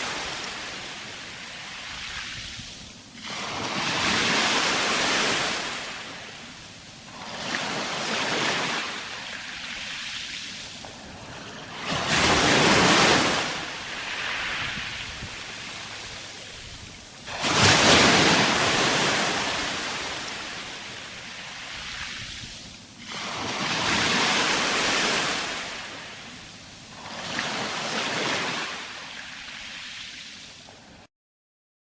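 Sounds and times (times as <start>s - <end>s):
sea waves breaking on shore: 0.0s - 31.1s.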